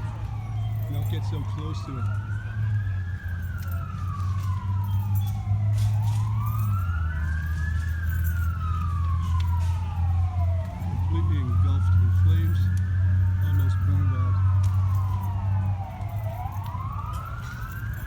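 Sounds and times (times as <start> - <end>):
emergency siren wailing: 0.0 - 18.0
second siren: 0.0 - 18.0.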